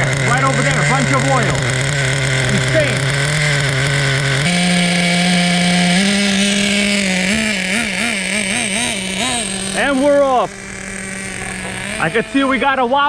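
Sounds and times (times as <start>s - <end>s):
model engine idling and revving: 0.0s - 13.0s.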